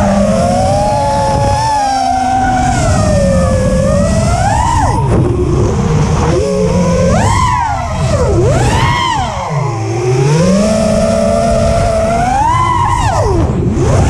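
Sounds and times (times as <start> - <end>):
drone motors whining: 0.0 - 14.0
wind noise: 0.0 - 14.0.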